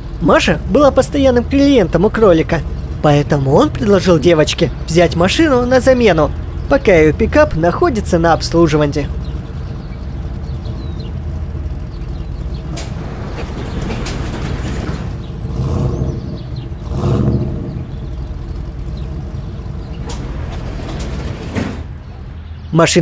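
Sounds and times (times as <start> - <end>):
pickup truck engine running: 0.0 - 22.7.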